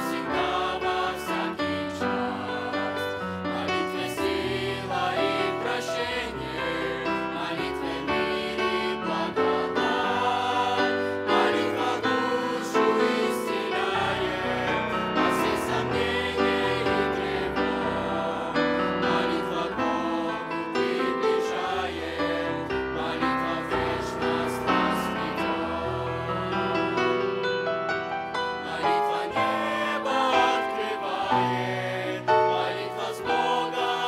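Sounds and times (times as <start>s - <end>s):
children's choir singing a hymn: 0.0s - 27.1s, 28.4s - 34.0s.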